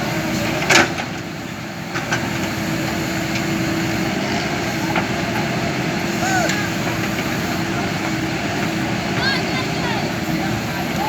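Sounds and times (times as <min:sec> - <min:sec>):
heavy diesel machinery running: 0:00.0 - 0:11.0.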